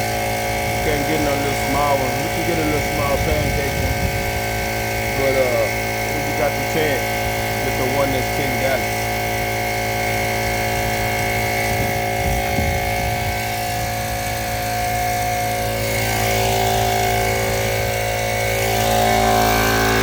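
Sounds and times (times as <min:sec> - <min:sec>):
air compressor running: 0:00.0 - 0:20.0.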